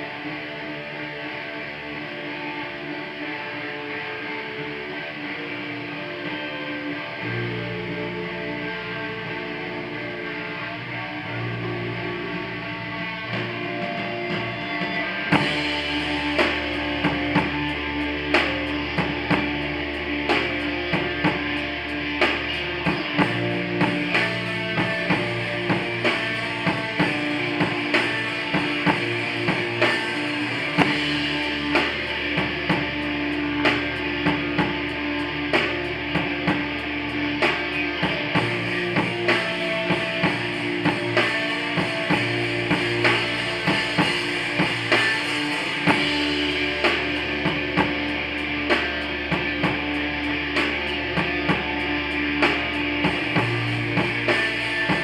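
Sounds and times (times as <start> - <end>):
bass guitar: 0.0 - 55.0
electric guitar: 0.0 - 55.0.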